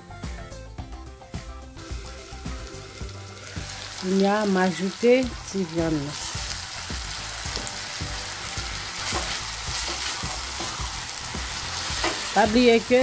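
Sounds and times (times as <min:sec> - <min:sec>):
meat sizzling in a pan: 0:01.8 - 0:13.0.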